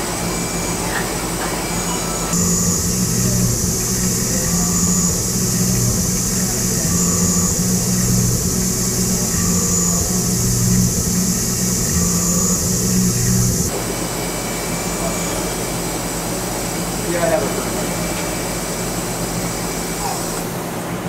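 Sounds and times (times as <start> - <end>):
mill spindle drone with hiss: 0.0 - 21.0
quieter machine hum: 2.1 - 21.0.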